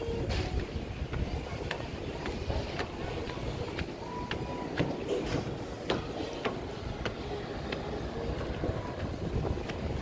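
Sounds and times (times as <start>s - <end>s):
wind rumbling on microphone: 0.0s - 10.0s
footsteps on stairs: 0.4s - 10.0s.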